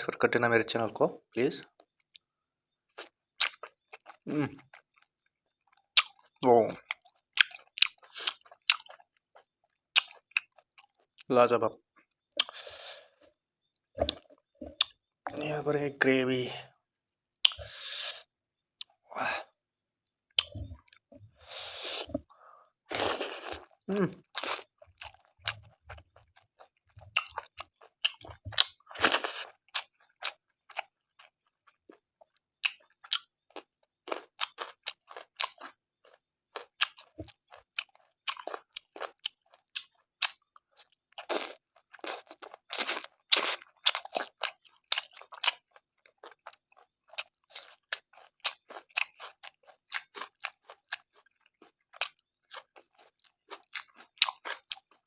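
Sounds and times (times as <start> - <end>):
wet chewing with crunches: 2.9 - 11.3, 12.0 - 15.4, 20.3 - 22.3, 22.9 - 55.0.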